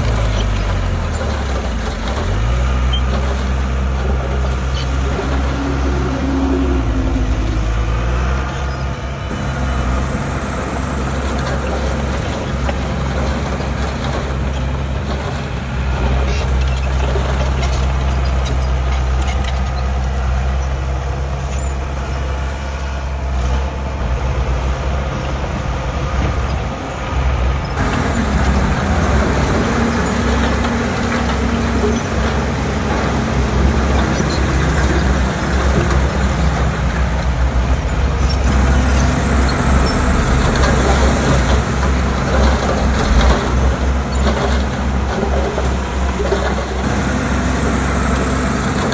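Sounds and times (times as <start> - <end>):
diesel machinery engine drone: 0.0 - 48.9.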